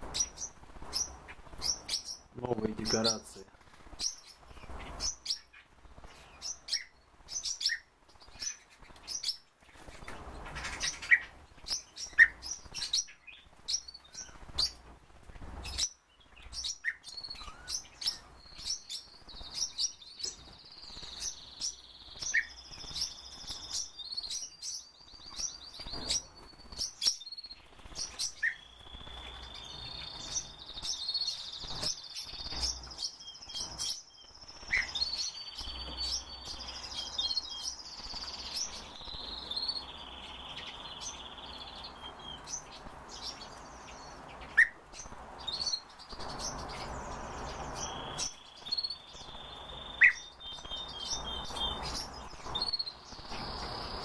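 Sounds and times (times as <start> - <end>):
bird warbling song with trill: 0.0 - 14.8, 15.5 - 54.0
songbirds chirping: 0.0 - 54.0.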